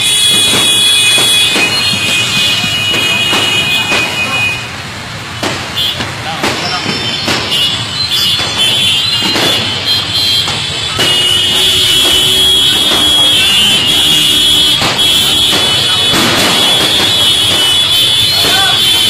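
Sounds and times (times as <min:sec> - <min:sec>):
firecracker cracks: 0:00.0 - 0:19.0.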